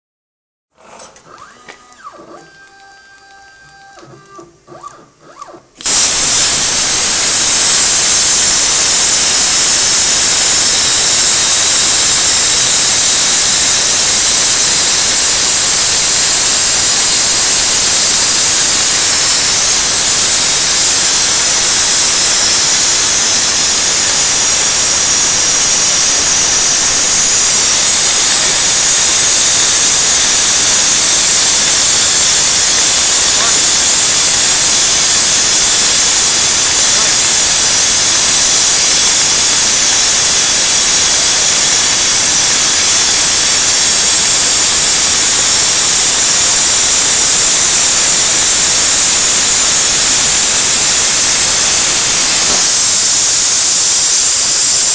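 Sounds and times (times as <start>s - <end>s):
plasma torch hissing: 5.8s - 54.9s.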